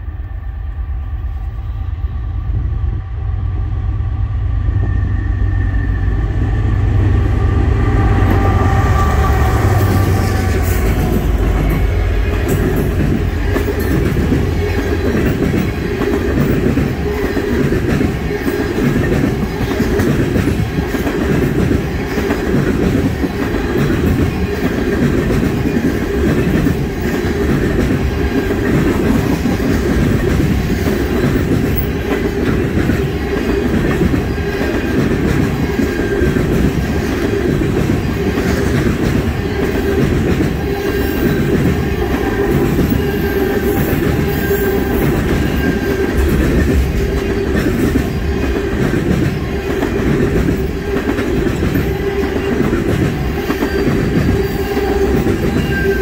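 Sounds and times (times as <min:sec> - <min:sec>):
train wheels rumbling on rail: 0:00.0 - 0:56.0
clickety-clack over rail joints: 0:08.2 - 0:56.0.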